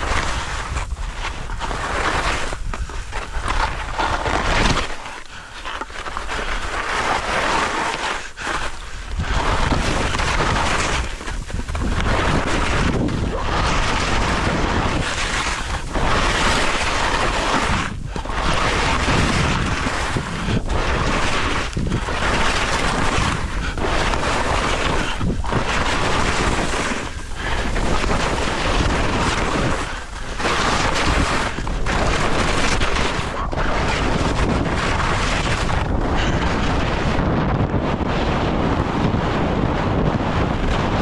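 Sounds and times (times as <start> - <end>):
skis scraping through snow: 0.0 - 41.0
wind noise on microphone: 0.0 - 41.0.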